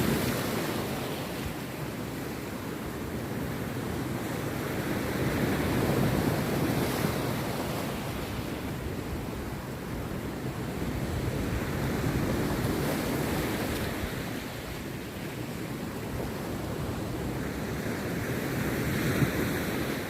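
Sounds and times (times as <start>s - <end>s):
sea surf breaking on beach: 0.0s - 20.0s.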